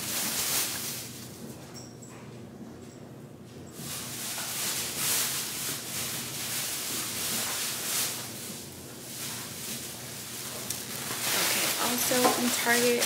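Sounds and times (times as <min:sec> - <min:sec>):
shopping bag rustling: 0:00.0 - 0:01.4, 0:03.8 - 0:13.0.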